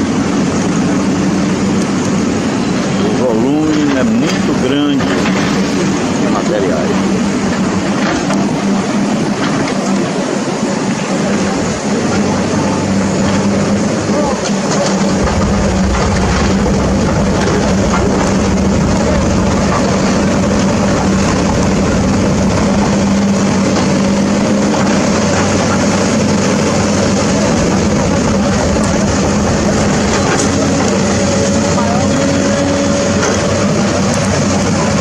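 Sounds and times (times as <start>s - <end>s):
heavy engine running: 0.0s - 35.0s.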